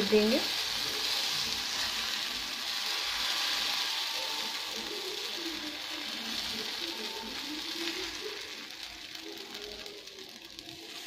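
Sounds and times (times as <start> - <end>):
batter sizzling on a hot pan: 0.0 - 11.0.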